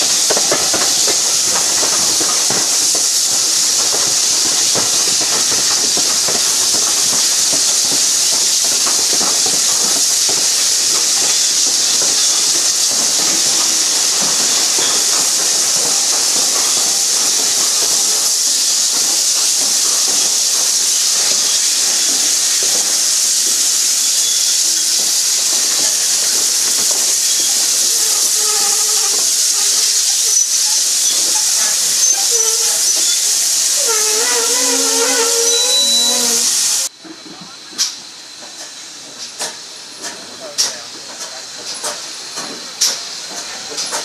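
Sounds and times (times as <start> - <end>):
steam hissing from train: 0.0 - 44.0.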